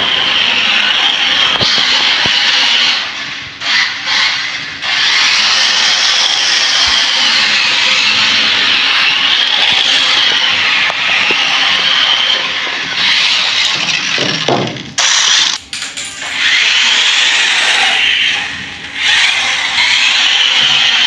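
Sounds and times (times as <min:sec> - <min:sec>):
toy car electric motor whining: 0:00.0 - 0:14.4, 0:16.3 - 0:21.0.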